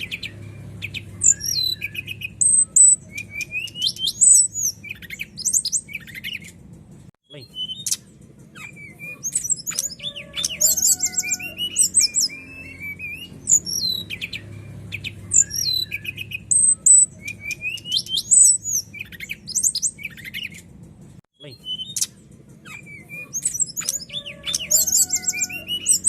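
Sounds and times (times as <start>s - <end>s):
songbird singing: 0.0s - 6.7s, 7.3s - 26.0s.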